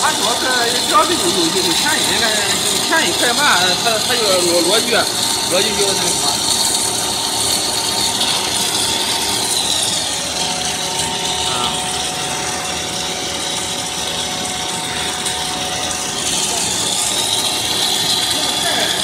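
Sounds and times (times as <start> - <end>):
food extruder running: 0.0 - 19.0.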